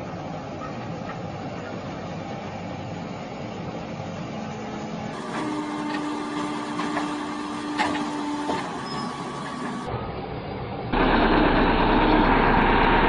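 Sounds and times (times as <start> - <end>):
machinery rumbling: 0.0 - 13.0.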